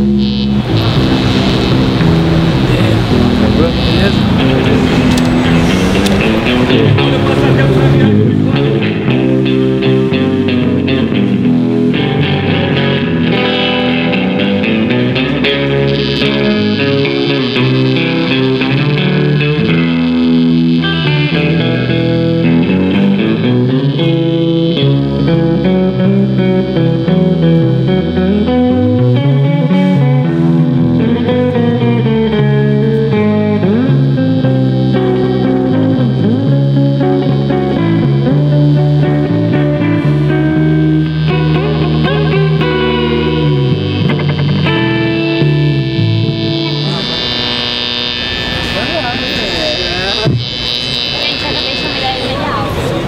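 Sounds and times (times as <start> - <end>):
band music with guitars: 0.0 - 53.0
bass guitar: 0.0 - 53.0.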